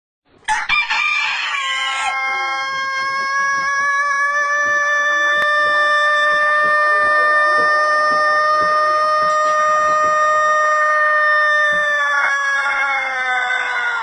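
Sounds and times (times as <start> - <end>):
rooster crowing: 0.4 - 14.0.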